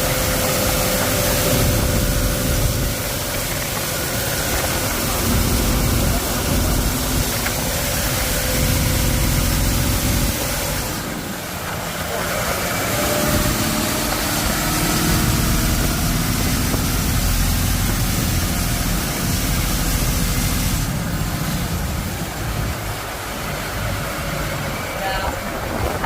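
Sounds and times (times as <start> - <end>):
diesel boat engine rumbling: 0.0 - 26.0.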